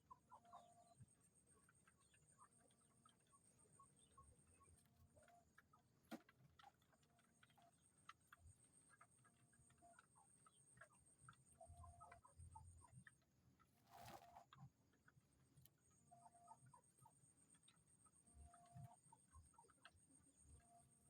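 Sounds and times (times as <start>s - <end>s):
faint clicks and ticks: 0.0s - 21.0s.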